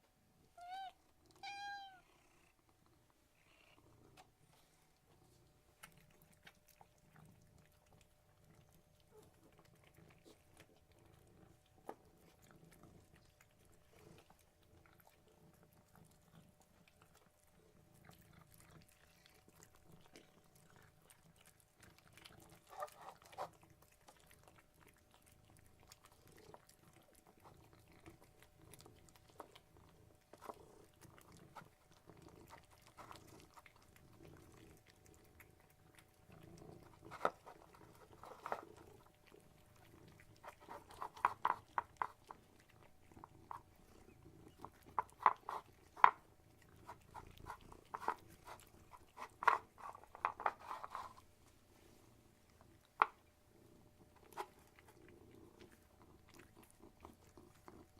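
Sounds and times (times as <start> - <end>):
cats purring: 0.0 - 57.9.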